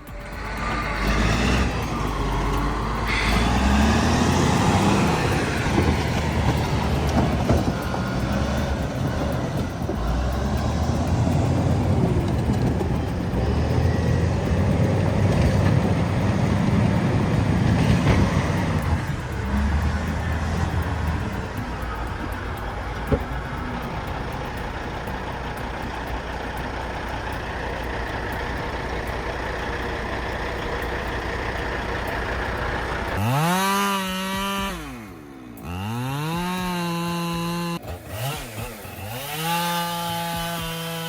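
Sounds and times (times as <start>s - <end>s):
heavy machine engine running: 0.0s - 41.0s.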